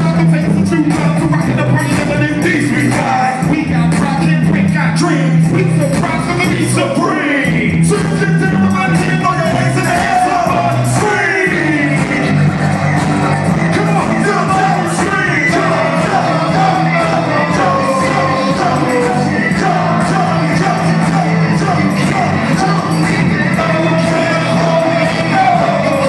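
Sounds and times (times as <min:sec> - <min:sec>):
bass line: 0:00.0 - 0:26.0.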